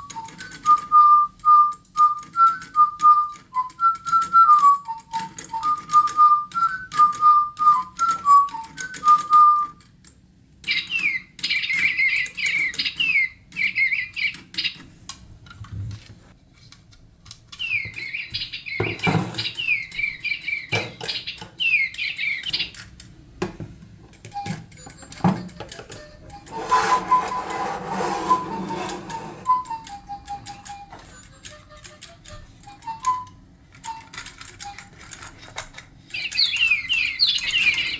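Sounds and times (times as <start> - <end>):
toy bird whistling tune: 0.0 - 9.8, 10.6 - 14.8, 17.6 - 22.8, 24.3 - 27.6, 28.2 - 35.0, 36.0 - 37.9.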